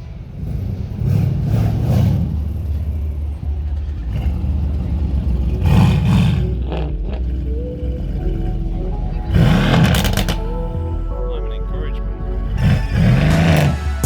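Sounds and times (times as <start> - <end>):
car engine revving: 0.0 - 11.2, 11.8 - 14.0.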